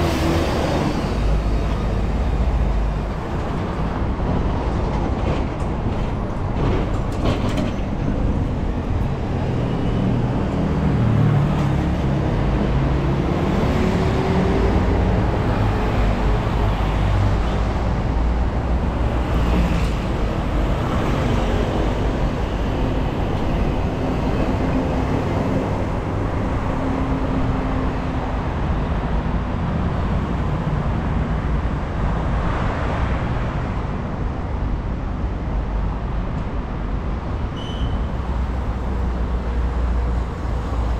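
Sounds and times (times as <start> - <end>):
passing vehicles: 0.0 - 40.9.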